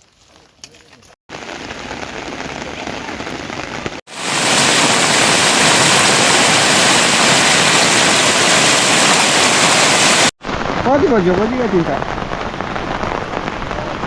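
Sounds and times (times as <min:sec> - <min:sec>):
rain falling: 0:01.3 - 0:14.0.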